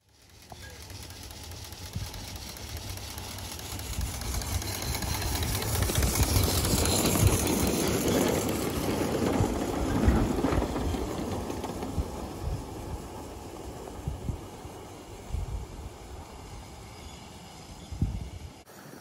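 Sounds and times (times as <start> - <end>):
miniature steam train passing: 0.0 - 19.0
wheel noise on track: 0.0 - 19.0.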